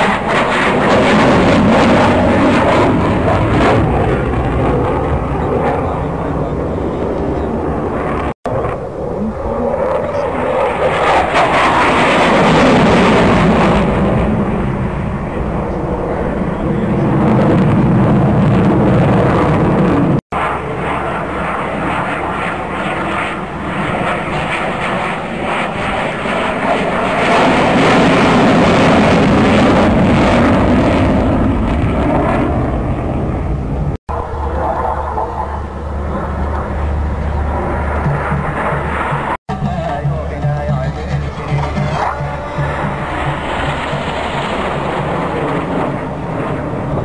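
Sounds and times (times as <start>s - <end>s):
jet fighter engine roar: 0.0s - 47.0s.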